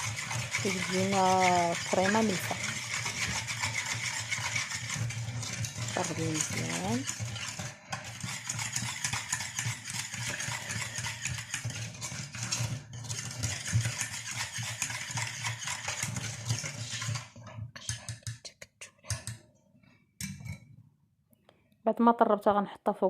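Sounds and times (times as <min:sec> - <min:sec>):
whisk clicking and scraping bowl: 0:00.0 - 0:19.5.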